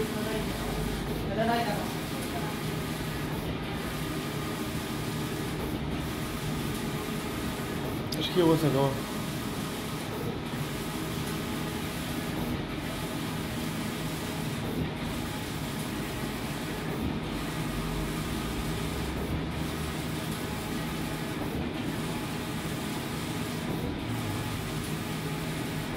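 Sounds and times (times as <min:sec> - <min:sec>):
inkjet printer printing: 0:00.0 - 0:25.9.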